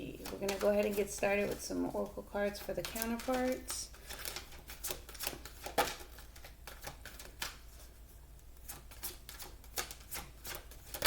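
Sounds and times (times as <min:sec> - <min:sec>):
cards being shuffled: 0:00.2 - 0:11.0.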